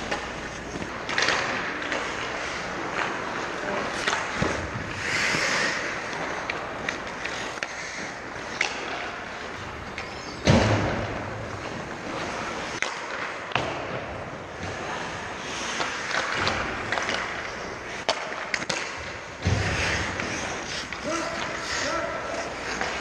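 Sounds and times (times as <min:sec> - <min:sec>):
skate blades scraping ice: 0:00.0 - 0:10.4, 0:11.5 - 0:13.4, 0:14.4 - 0:23.0
hockey sticks and puck clacking: 0:00.0 - 0:23.0.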